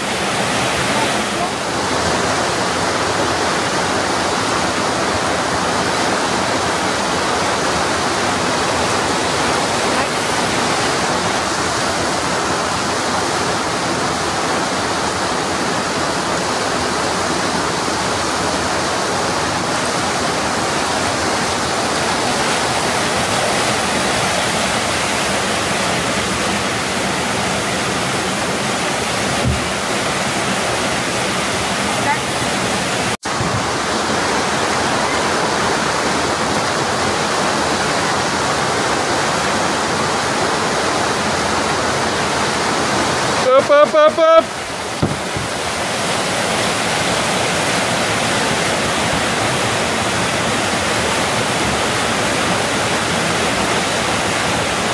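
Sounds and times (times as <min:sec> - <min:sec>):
river rapids rushing: 0:00.0 - 0:54.9.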